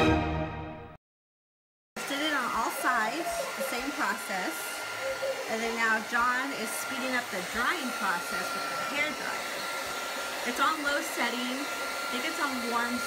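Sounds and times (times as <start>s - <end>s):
hair dryer blowing: 2.0s - 13.0s
hair dryer whine: 2.0s - 13.0s.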